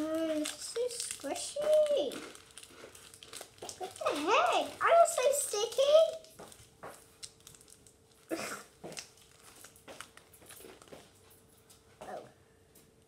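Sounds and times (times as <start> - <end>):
plastic packaging crinkling: 0.0 - 11.3
faint steady hum: 0.0 - 13.0.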